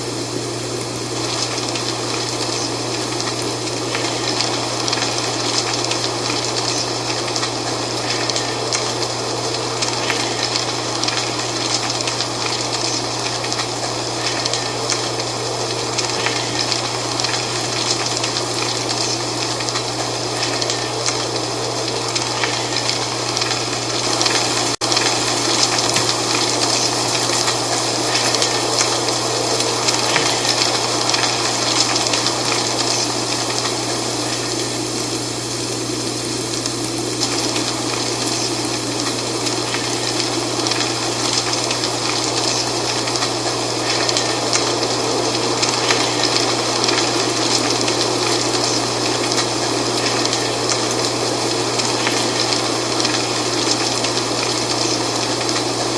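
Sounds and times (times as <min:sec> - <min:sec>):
dry leaves rustling in wind: 0:00.0 - 0:55.9.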